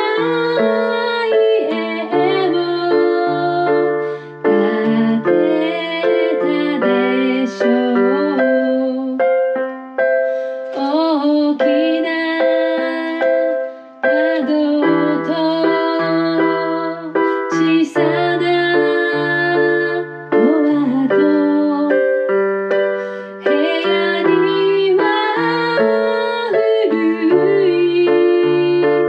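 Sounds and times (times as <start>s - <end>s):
woman singing: 0.0s - 9.6s, 10.7s - 29.0s
electronic keyboard ballad: 0.0s - 29.0s.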